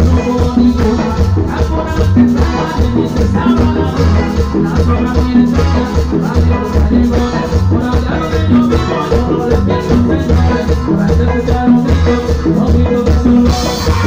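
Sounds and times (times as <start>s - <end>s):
latin dance band playing: 0.0s - 14.0s
percussion: 0.0s - 14.0s
pulsing bass beat: 0.0s - 14.0s.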